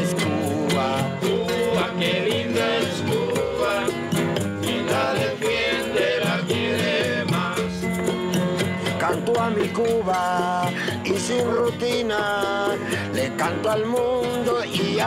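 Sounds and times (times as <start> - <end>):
acoustic guitars: 0.0 - 15.0
maracas: 0.0 - 15.0
marimbula beat: 0.0 - 15.0.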